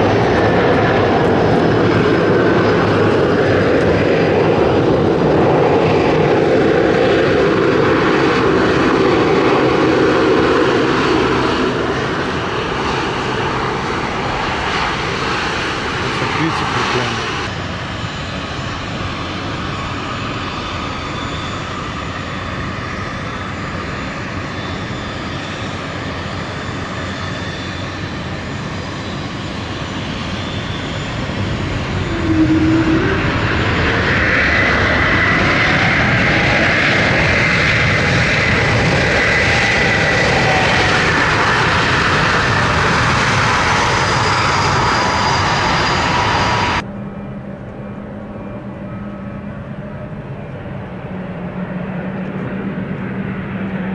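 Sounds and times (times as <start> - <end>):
jet engines spooling up: 0.0 - 53.9.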